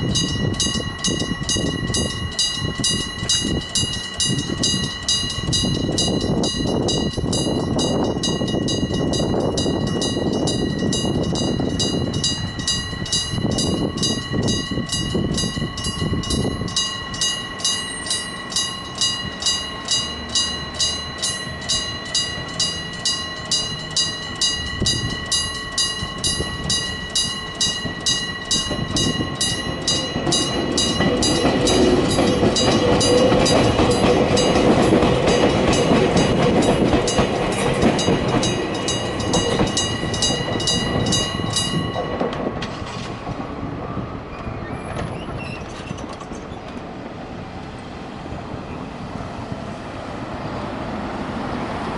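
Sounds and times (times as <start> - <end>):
level crossing bell ringing: 0.0 - 37.4, 38.0 - 42.4
train wheel clatter: 0.0 - 47.0.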